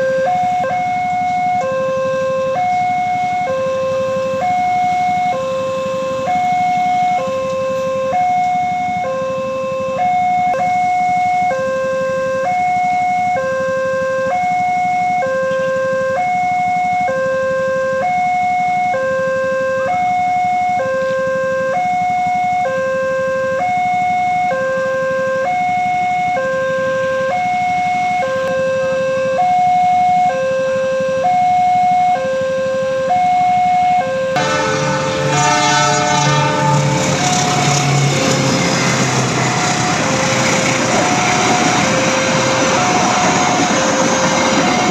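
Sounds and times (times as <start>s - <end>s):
level crossing two-tone alarm: 0.0s - 44.9s.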